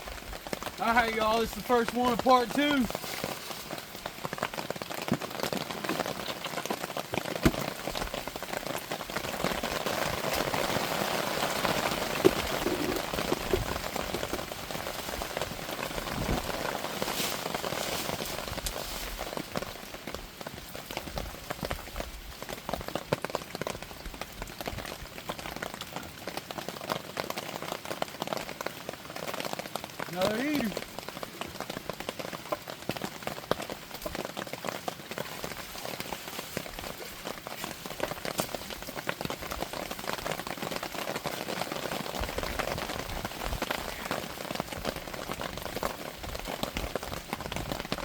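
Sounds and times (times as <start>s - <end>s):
heavy rain pattering: 0.0s - 48.0s.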